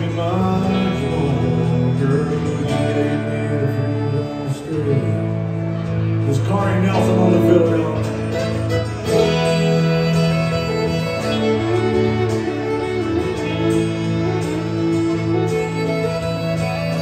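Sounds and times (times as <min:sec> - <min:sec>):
fiddle playing melody: 0:00.0 - 0:17.0
strummed acoustic guitar: 0:00.0 - 0:17.0.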